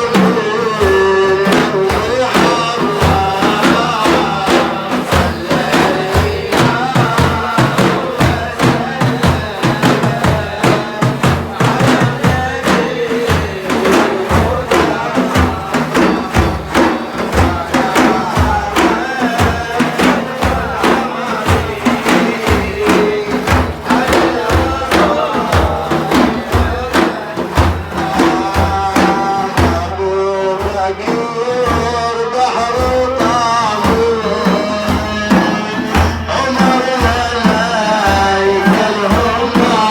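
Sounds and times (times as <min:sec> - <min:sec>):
frame drums beating: 0:00.0 - 0:39.9
voices chanting: 0:00.0 - 0:39.9.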